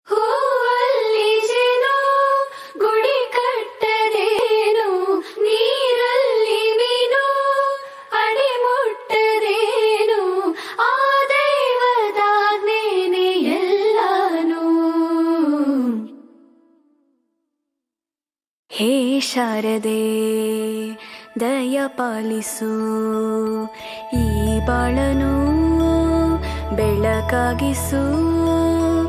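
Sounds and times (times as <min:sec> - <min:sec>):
person singing devotional melody: 0:00.1 - 0:16.7, 0:18.7 - 0:29.0.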